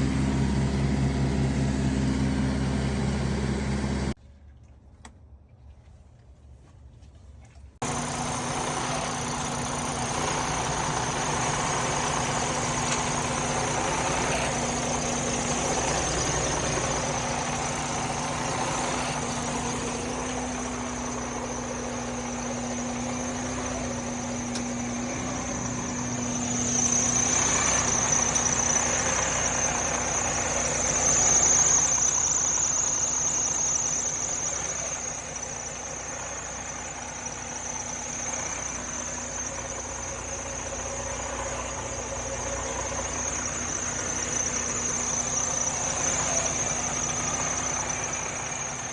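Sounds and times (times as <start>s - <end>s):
diesel engine idling: 0.0s - 4.2s, 7.8s - 48.9s
high-pitched whine: 7.9s - 48.9s.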